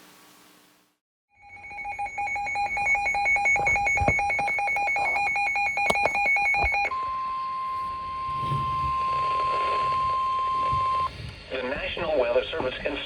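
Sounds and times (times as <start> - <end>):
long steady alarm tone: 1.3 - 11.8.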